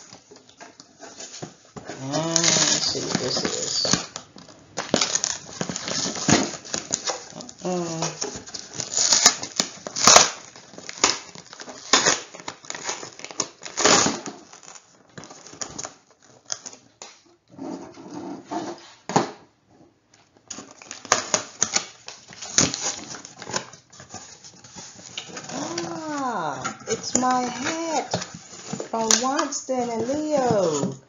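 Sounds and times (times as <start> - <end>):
packing tape ripping off box: 0.0 - 17.2, 20.5 - 31.0.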